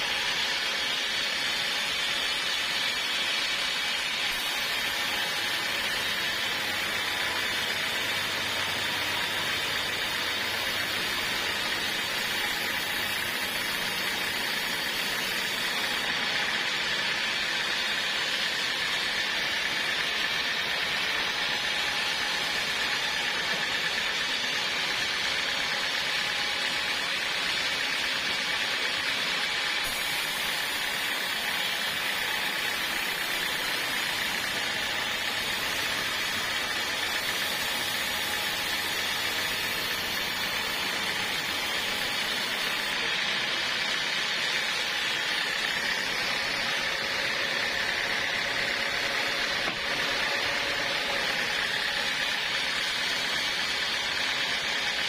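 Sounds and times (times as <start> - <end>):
sawmill running: 0.0 - 55.0.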